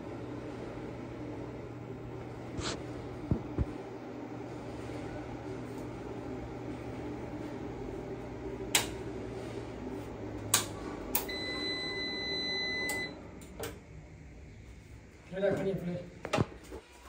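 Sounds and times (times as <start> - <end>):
inverter humming: 0.0 - 16.8.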